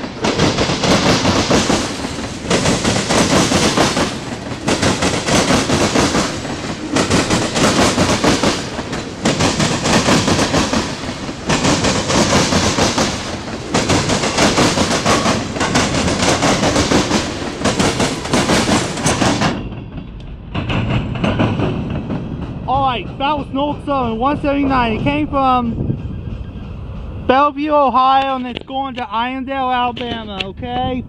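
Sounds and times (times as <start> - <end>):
freight cars rolling on rails: 0.0 - 30.6.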